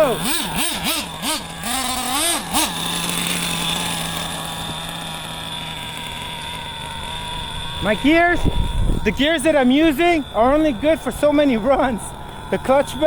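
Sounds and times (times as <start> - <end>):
small engine revving and idling: 0.0 - 13.0.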